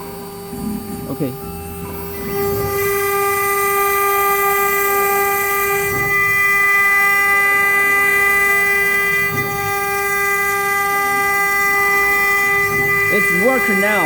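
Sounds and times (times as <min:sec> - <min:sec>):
router spindle whining: 0:00.0 - 0:14.0.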